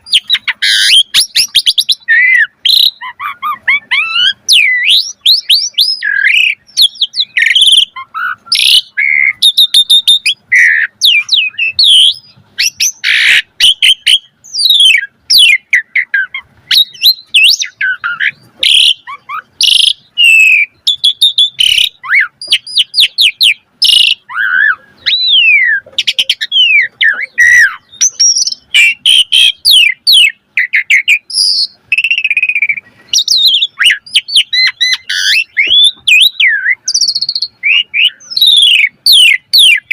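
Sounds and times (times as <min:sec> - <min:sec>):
starling singing whistled song: 0:00.0 - 0:39.9.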